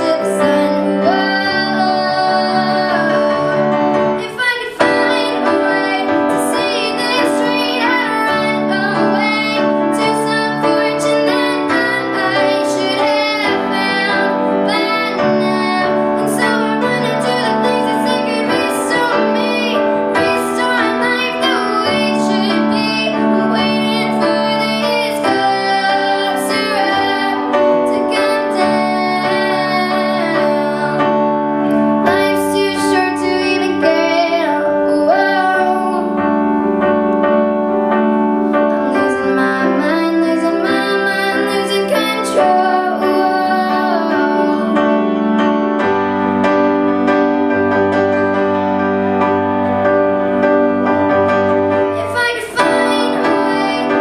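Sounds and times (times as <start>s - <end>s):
woman singing: 0.0s - 31.4s, 32.0s - 36.6s, 38.7s - 45.2s, 51.9s - 54.0s
piano accompaniment: 0.0s - 54.0s.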